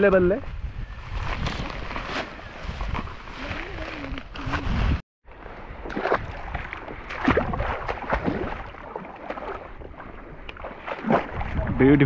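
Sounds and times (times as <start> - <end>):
person wading through water: 1.0 - 11.9.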